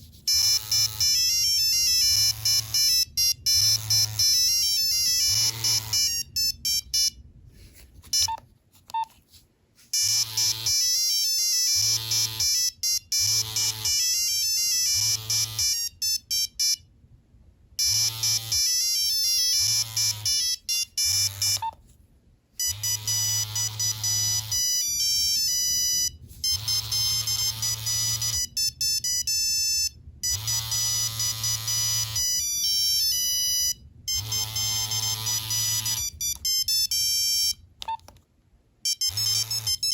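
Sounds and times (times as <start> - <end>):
monophonic phone ringtone: 0.3 - 7.2, 10.0 - 16.8, 17.8 - 21.8, 22.6 - 38.0, 38.8 - 39.9.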